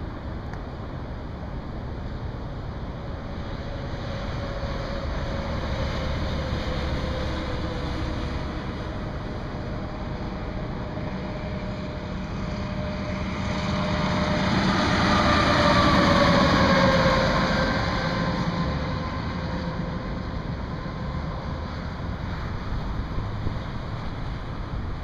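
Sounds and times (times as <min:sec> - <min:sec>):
vehicle passing on highway: 0:00.0 - 0:25.0.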